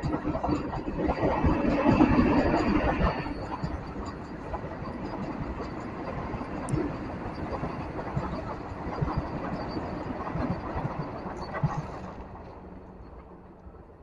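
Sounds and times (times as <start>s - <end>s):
electric train rumbling past: 0.0s - 14.0s.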